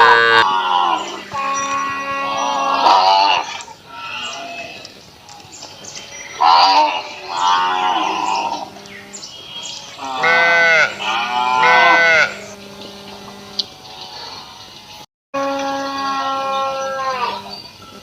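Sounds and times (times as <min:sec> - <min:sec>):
cow mooing: 0:00.0 - 0:05.0, 0:06.4 - 0:14.6, 0:15.4 - 0:17.5.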